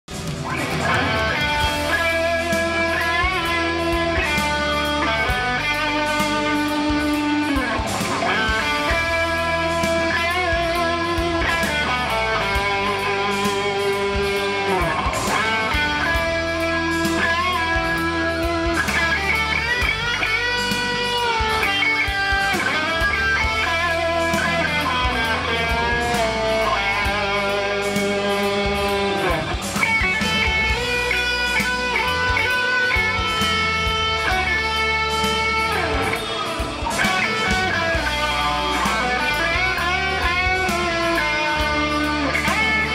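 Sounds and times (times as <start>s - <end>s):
electric guitar solo: 0.1s - 42.9s.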